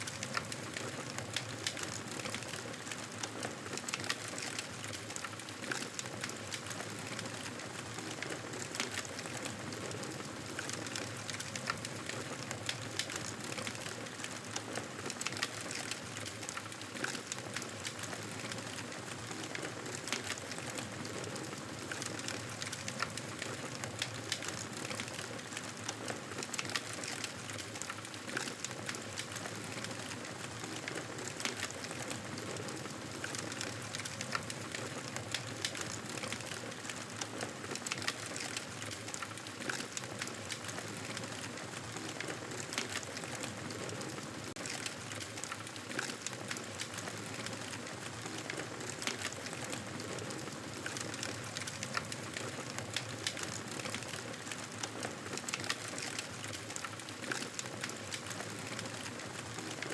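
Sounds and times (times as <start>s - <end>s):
campfire crackling and popping: 0.0s - 9.5s, 10.1s - 59.9s.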